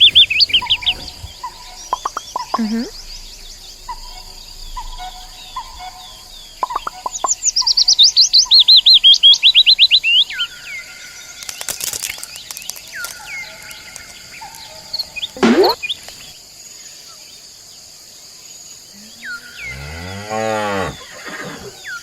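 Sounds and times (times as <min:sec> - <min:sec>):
songbird rapid chirps: 0:00.0 - 0:22.0.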